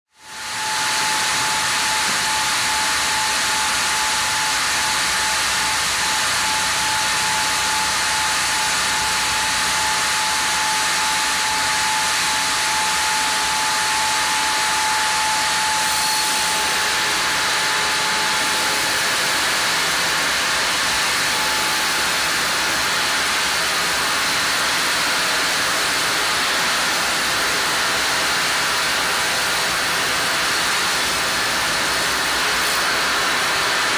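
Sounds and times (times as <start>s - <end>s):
thin high whine: 0.1s - 33.9s
band saw running: 0.2s - 33.9s.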